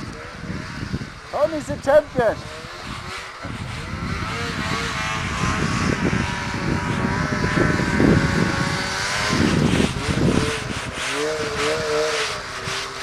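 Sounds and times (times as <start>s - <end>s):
snowmobile engine approaching: 0.0s - 13.0s.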